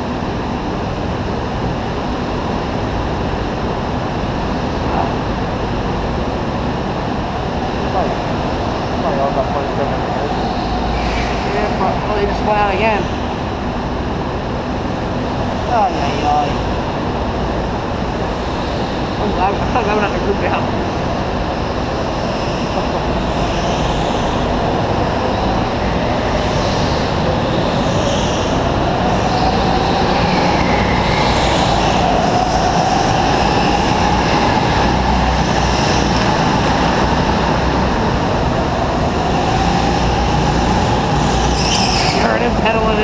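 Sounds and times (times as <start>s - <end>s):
faint whine: 0.0s - 43.0s
go-kart motors droning: 0.0s - 43.0s.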